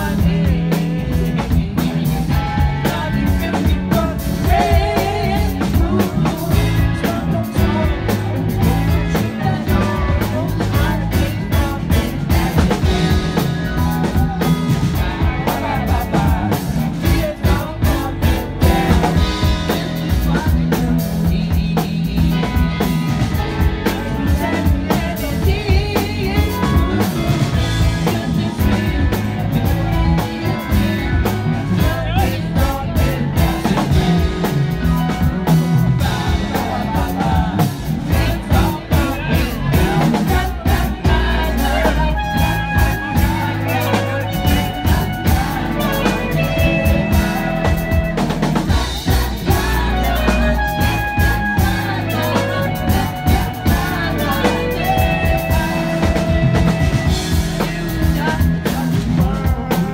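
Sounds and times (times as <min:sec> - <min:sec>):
live rock band playing: 0:00.0 - 0:59.9
man singing: 0:00.0 - 0:59.9.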